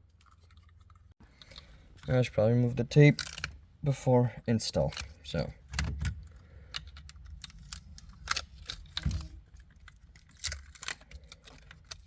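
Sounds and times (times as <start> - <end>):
plastic parts clicking and scraping: 0.0 - 3.6, 4.7 - 12.0.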